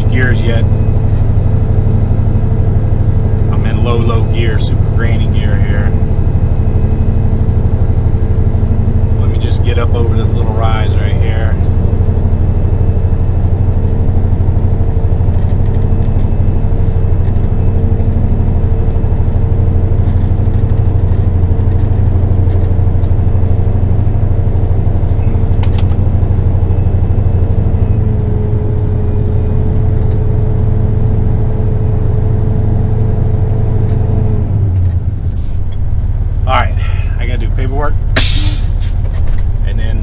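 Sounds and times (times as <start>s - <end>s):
truck diesel engine drone: 0.0s - 40.0s.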